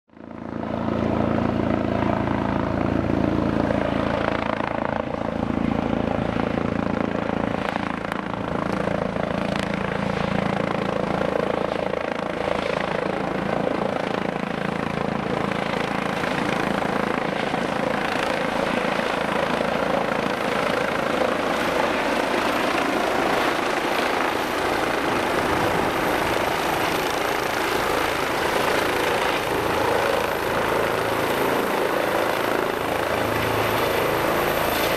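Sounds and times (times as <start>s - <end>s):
helicopter rotor and turbine noise: 0.1s - 34.9s.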